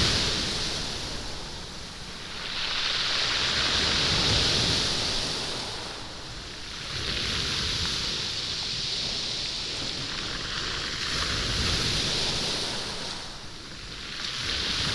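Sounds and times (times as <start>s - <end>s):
waves washing over stony beach: 0.0s - 14.9s.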